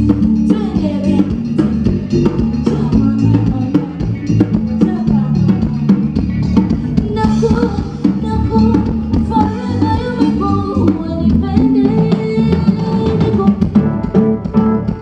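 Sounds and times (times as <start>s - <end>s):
person singing: 0.0s - 6.0s, 6.7s - 14.0s
drums: 0.0s - 15.0s
guitar: 0.0s - 15.0s.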